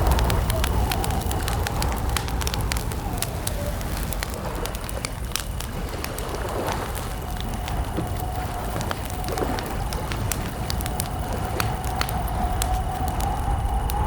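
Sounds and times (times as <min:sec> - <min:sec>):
campfire pops and snaps: 0:00.0 - 0:14.0
low rumble of burning: 0:00.0 - 0:14.0.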